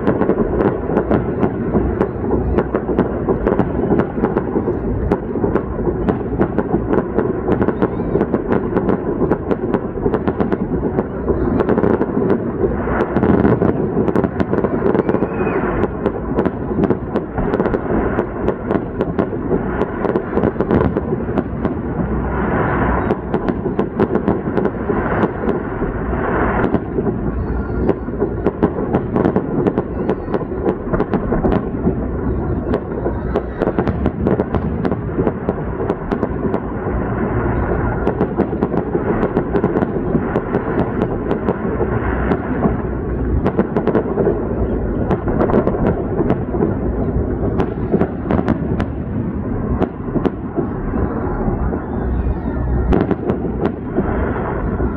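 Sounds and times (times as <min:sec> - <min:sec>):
fireworks crackling and banging: 0:00.0 - 0:54.9.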